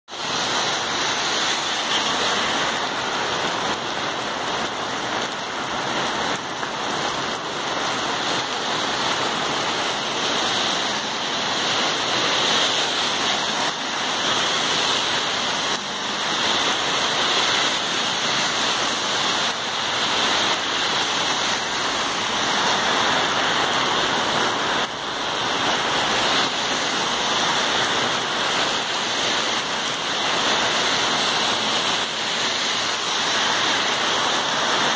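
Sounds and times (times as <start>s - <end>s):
heavy rain on a wet street: 0.1s - 34.9s.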